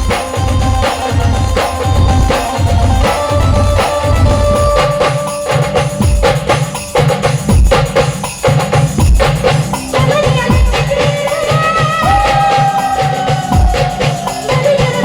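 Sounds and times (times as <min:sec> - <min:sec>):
drums beating: 0:00.0 - 0:15.0
instrumental band music: 0:00.0 - 0:15.0.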